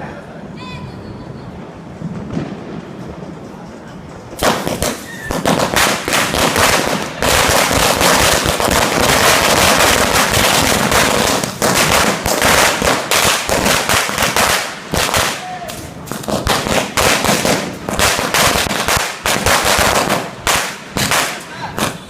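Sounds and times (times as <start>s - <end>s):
firecrackers bursting: 1.3s - 22.0s.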